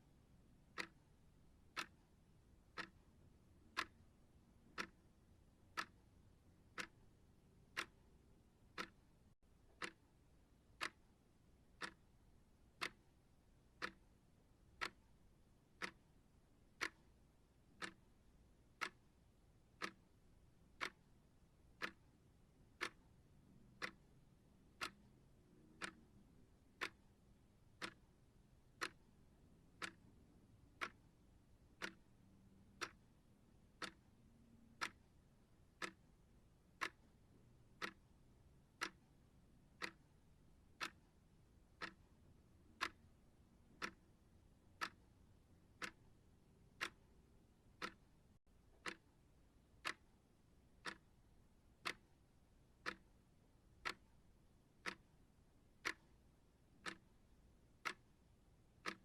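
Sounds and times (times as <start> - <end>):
clock timer ticking: 0.2 - 59.0.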